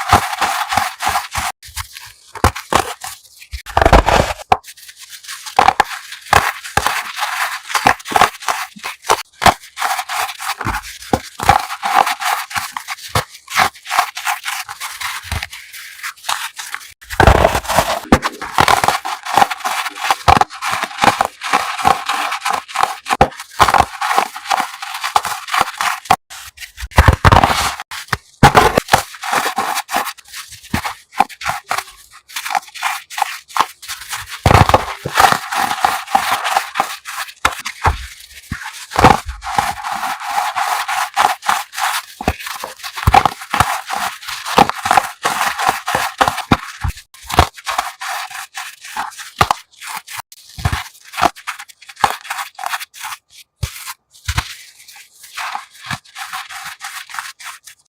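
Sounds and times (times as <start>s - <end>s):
chalk crushing and crackling: 0.0s - 57.9s.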